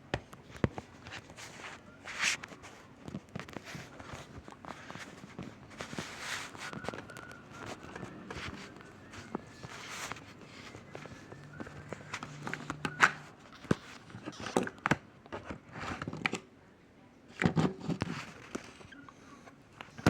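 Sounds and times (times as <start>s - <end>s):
hands fiddling with small parts: 0.1s - 16.3s.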